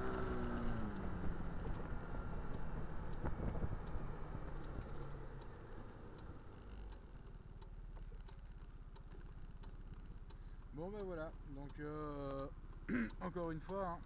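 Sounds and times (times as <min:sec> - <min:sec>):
faint light ticks: 0:00.0 - 0:14.0.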